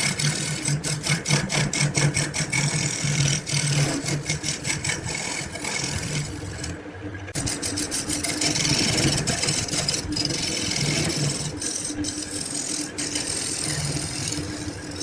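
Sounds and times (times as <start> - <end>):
small motor running: 0.0 - 15.0.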